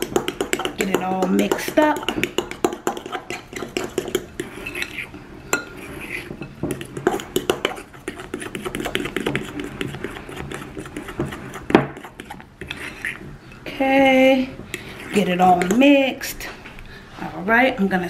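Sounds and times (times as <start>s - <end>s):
fork scraping glass bowl: 0.0s - 13.7s, 14.7s - 16.0s.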